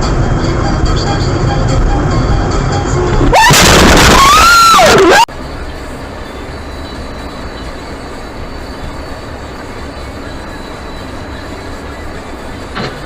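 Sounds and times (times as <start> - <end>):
car engine rumbling: 0.0 - 13.0
tyres on road: 0.0 - 13.0.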